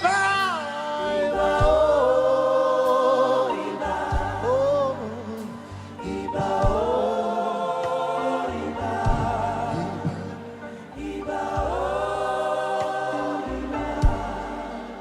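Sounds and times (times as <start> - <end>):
gospel choir singing: 0.0 - 15.0
instrumental accompaniment with bass: 0.0 - 15.0.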